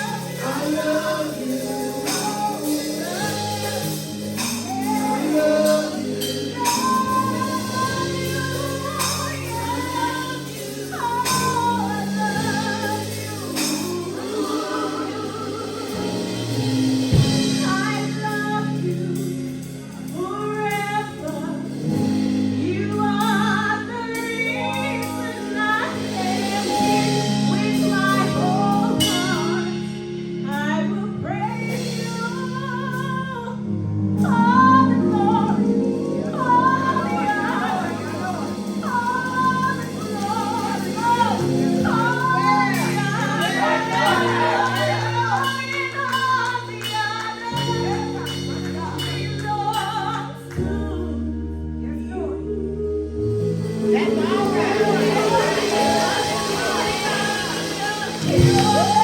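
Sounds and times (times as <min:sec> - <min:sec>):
women and choir singing gospel: 0:00.0 - 0:33.5, 0:34.2 - 0:51.1, 0:53.1 - 0:59.0
instrumental accompaniment: 0:00.0 - 0:59.0.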